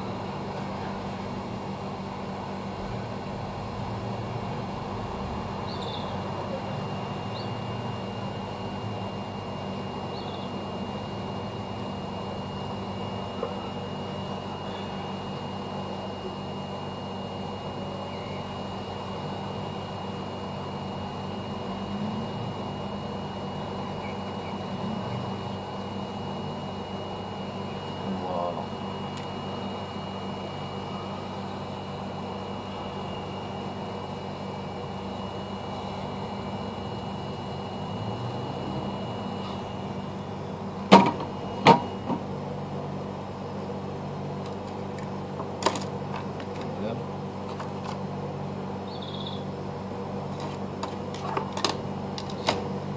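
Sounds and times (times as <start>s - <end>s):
hot air blower hissing: 0.0s - 52.9s.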